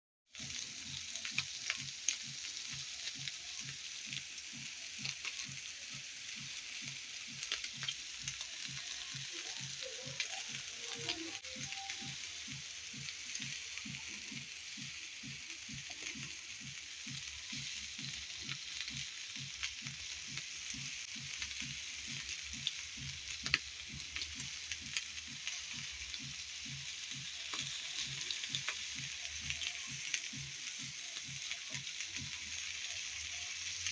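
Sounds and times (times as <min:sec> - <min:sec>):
food sizzling on a griddle: 0:00.3 - 0:33.9.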